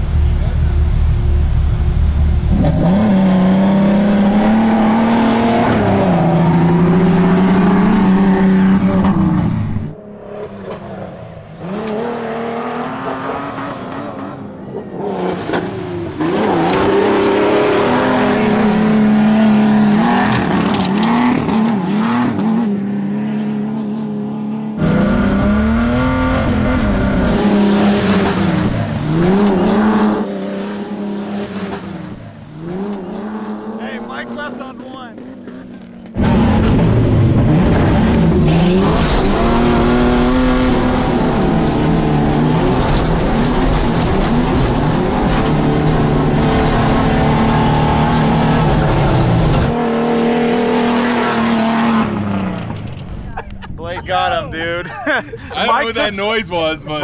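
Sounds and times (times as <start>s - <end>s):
off-road truck engines revving: 0.0s - 57.0s.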